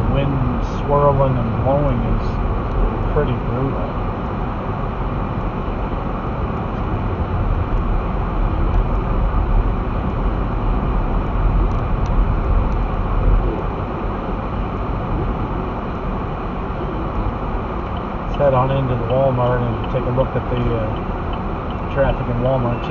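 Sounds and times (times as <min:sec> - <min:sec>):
car road and engine noise: 0:00.0 - 0:22.9
wind blowing against vehicle: 0:00.0 - 0:22.9.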